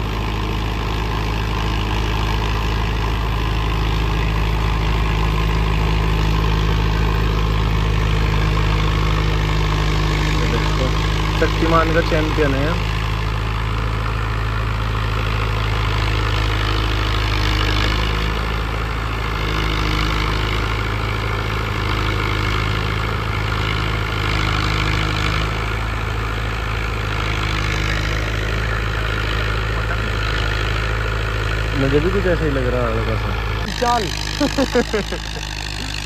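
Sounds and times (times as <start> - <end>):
rotavator blades churning soil: 0.0 - 36.0
tractor diesel engine running: 0.0 - 36.0.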